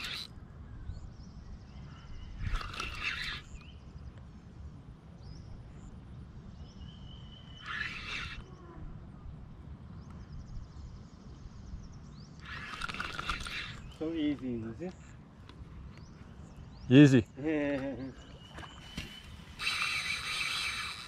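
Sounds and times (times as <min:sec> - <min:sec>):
faint bird chirps: 0:00.0 - 0:04.2, 0:05.2 - 0:15.2, 0:15.9 - 0:21.0
birds calling: 0:00.0 - 0:21.0.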